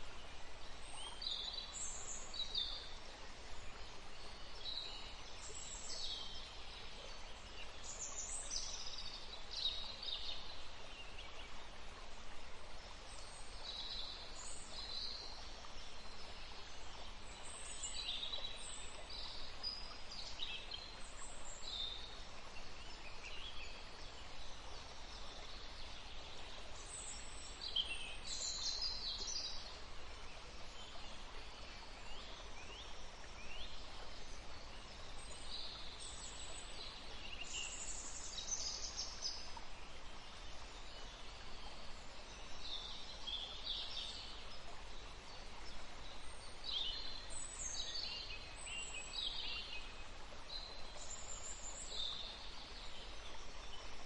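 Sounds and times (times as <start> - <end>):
faint background hiss: 0.0 - 54.0.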